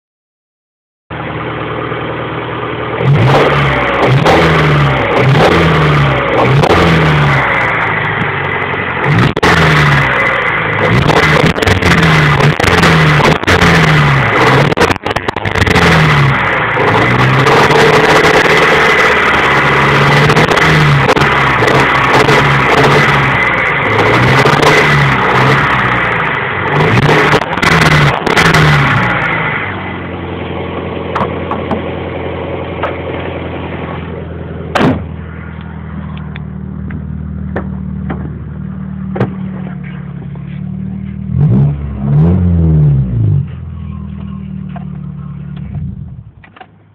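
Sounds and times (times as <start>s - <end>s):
car engine idling and revving: 1.1s - 46.9s.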